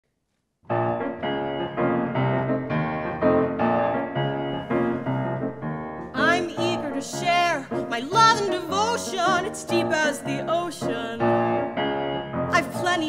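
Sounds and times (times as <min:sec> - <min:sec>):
piano chords over bass notes: 0:00.7 - 0:13.0.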